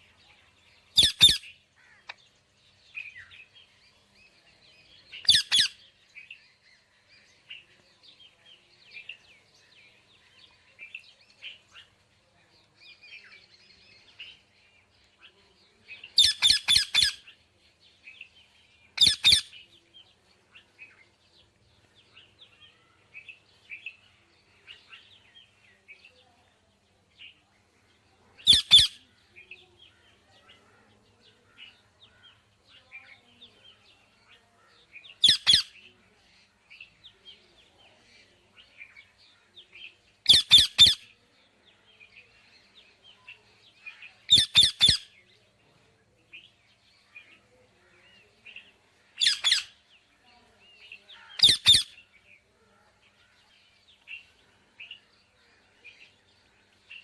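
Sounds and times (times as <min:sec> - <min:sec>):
soft bird chirps and chatter: 0:00.0 - 0:57.0.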